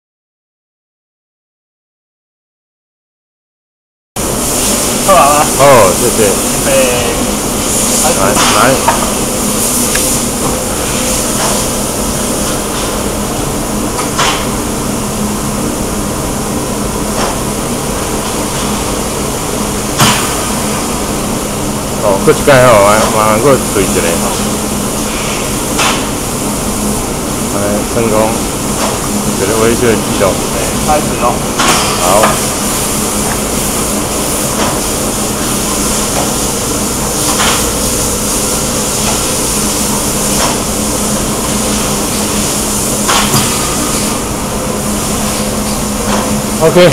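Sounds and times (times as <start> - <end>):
loud machine noise: 4.2 - 46.9
welding press humming: 4.2 - 46.9.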